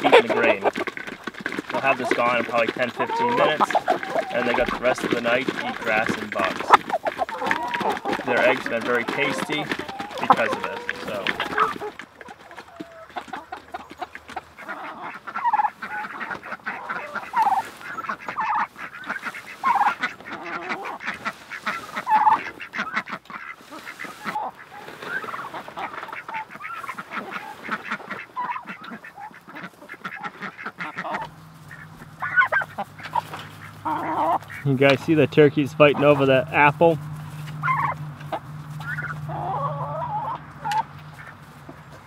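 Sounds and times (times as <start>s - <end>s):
poultry calling: 0.0s - 42.0s.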